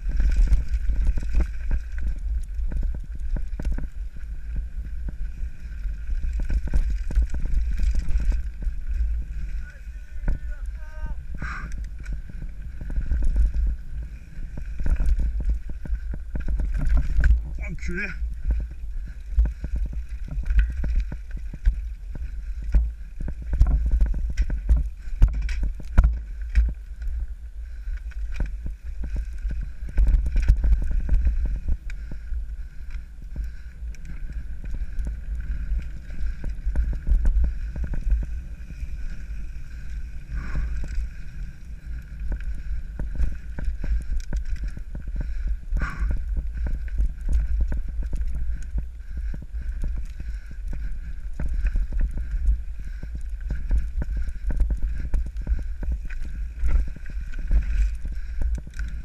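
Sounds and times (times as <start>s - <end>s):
bike rattling over stones: 0.0s - 59.0s
wind and ground rumble: 0.0s - 59.0s.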